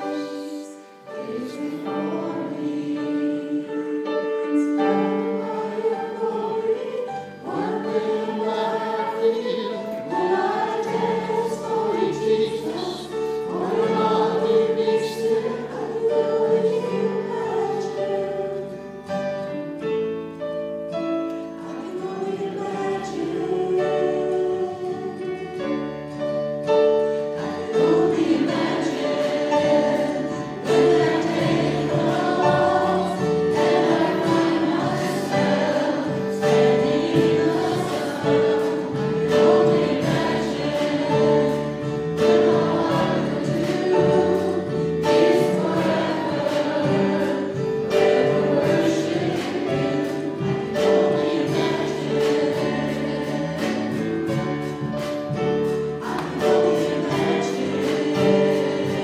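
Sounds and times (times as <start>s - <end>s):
group singing worship song: 0.0s - 20.0s, 21.6s - 59.0s
keyboard accompaniment: 0.0s - 59.0s.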